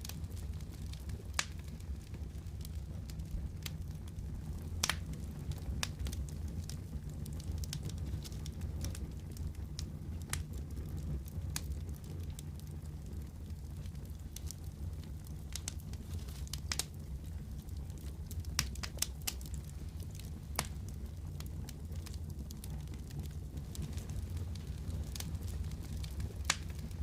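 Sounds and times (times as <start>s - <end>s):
low fire rumble: 0.0s - 27.0s
wood fire crackling: 0.0s - 27.0s.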